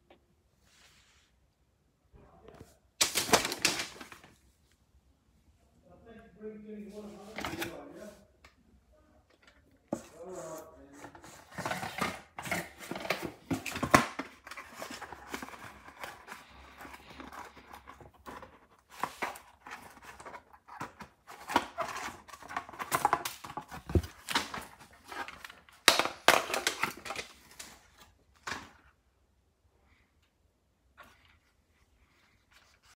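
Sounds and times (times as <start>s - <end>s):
cardboard and plastic toy handled: 2.4s - 4.7s, 6.9s - 8.6s, 9.2s - 29.2s, 30.1s - 32.9s.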